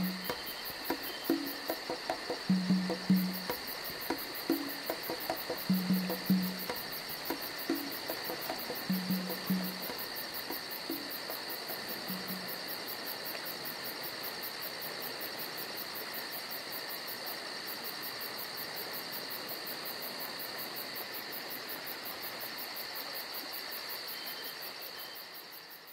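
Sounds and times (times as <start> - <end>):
insect chirping: 0.0 - 25.9
insects trilling: 0.0 - 25.9.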